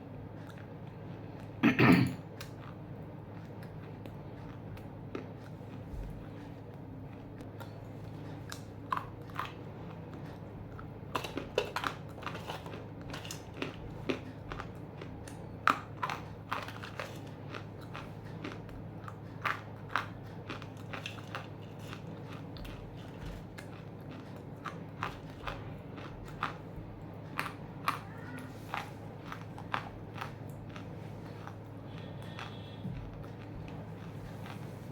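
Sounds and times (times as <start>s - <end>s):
steady low hum: 0.0s - 34.9s
clay chunks crunching when chewed: 0.2s - 1.6s, 2.2s - 34.9s.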